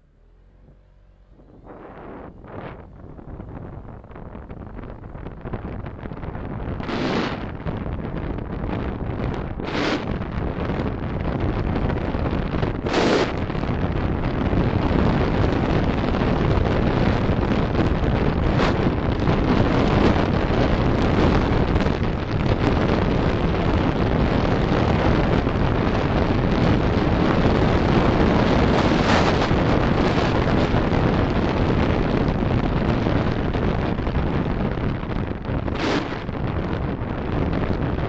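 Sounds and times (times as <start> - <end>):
car road and wind noise: 0.0 - 38.0.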